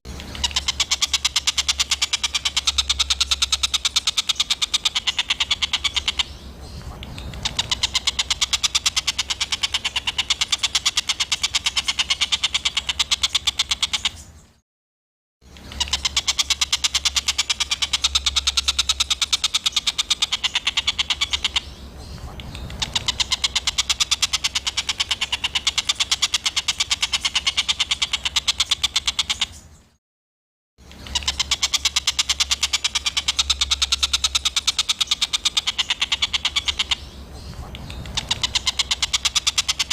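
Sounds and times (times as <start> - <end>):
songbird rapid clicking call: 0.1 - 14.4, 15.5 - 29.7, 30.8 - 39.9.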